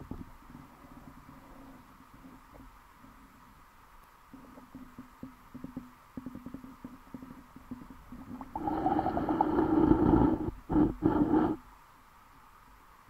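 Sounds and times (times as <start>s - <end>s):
low underwater hum: 0.0s - 13.0s.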